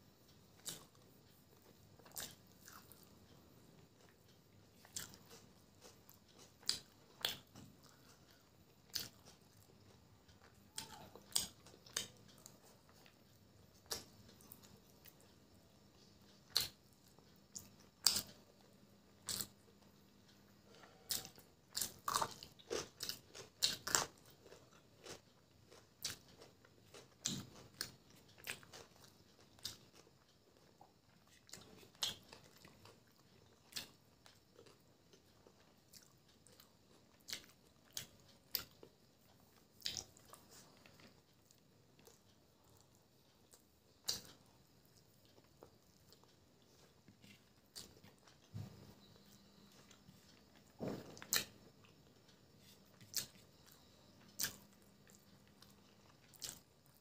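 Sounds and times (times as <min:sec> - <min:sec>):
chewing with wet clicks: 0:00.2 - 0:57.0.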